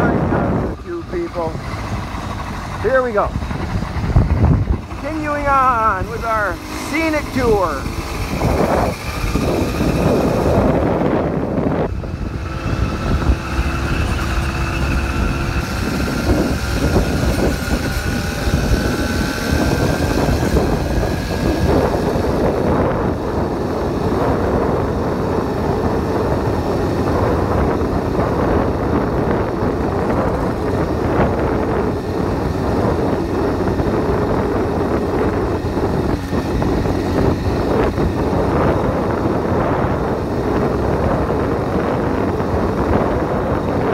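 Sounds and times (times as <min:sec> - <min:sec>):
small motorbike engine running: 0:00.0 - 0:43.9
wind rumble on microphone: 0:00.0 - 0:43.9.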